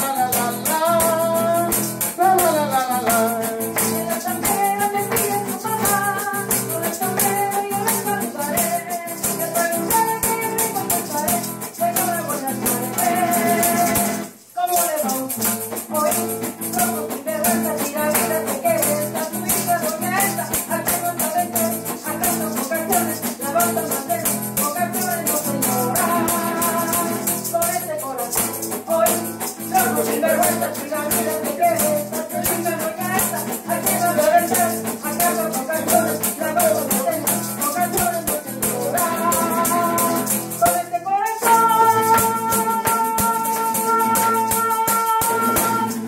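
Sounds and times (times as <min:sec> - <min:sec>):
group singing: 0:00.0 - 0:14.4, 0:16.6 - 0:27.6, 0:28.3 - 0:46.0
maracas shaking: 0:00.0 - 0:46.0
strummed acoustic guitar: 0:00.0 - 0:46.0
tambourine shaking: 0:00.0 - 0:46.0.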